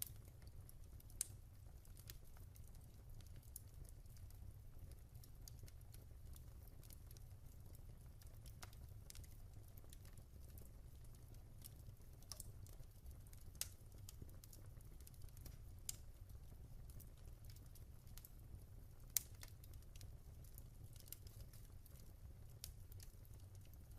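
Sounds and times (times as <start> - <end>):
low rumble of flames: 0.0 - 23.9
wood fire crackling: 0.0 - 23.9.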